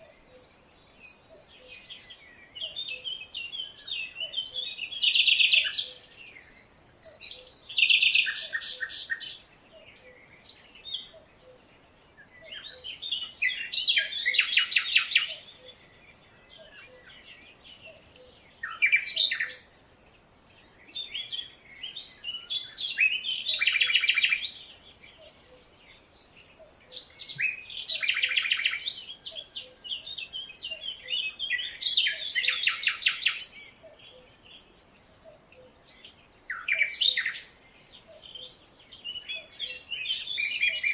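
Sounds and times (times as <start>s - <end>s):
bird chirps and calls: 0.0s - 40.9s
bird song of rapid repeated notes: 0.0s - 40.9s.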